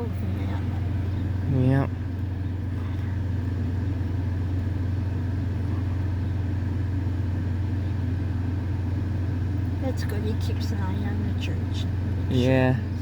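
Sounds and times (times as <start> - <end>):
engine running low rumble: 0.0 - 13.0.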